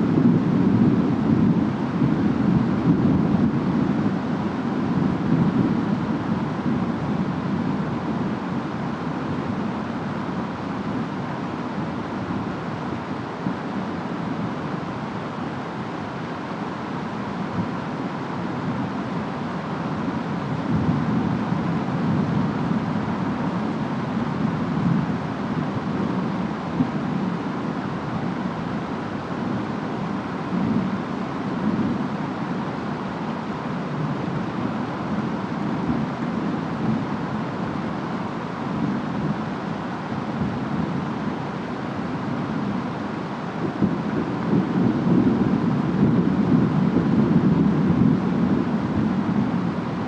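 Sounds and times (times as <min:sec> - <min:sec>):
steady rain: 0:00.0 - 0:50.0
wind: 0:00.0 - 0:50.0.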